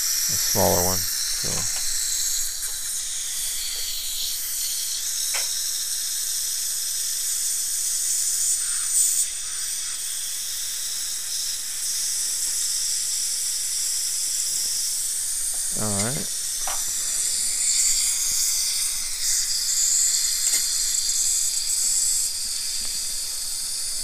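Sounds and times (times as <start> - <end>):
dental suction hissing: 0.0 - 24.0.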